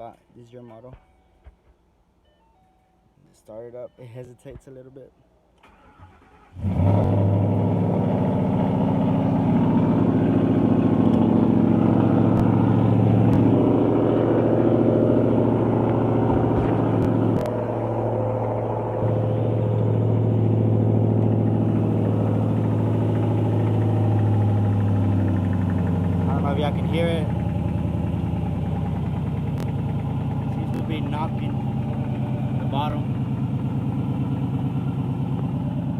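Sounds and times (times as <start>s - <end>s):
car engine starting and idling: 5.6s - 35.9s.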